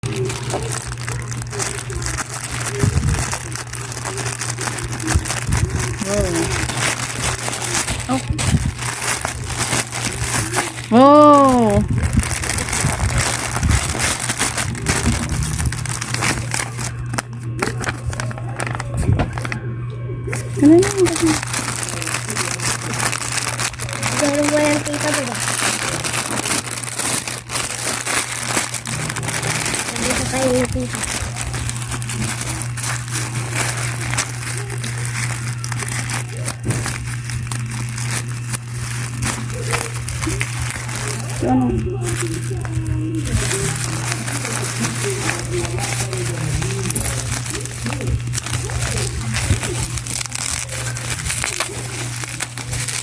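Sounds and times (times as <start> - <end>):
packaging crinkling and rustling: 0.0 - 19.7, 20.3 - 53.0
steady low hum: 0.0 - 53.0.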